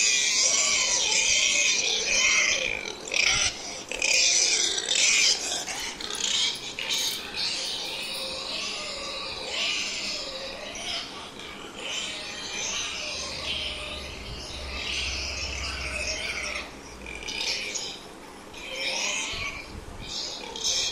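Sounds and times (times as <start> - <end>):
pig squealing: 0.0 - 20.9.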